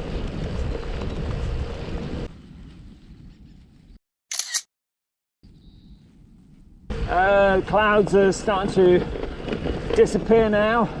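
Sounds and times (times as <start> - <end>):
wind rumbling on microphone: 0.0 - 4.0, 5.4 - 11.0.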